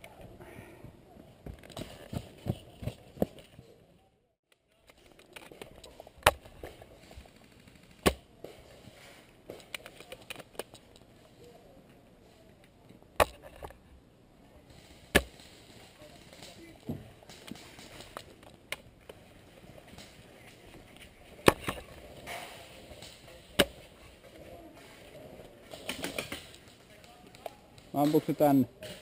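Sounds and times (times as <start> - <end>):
low outdoor background: 0.0 - 29.0.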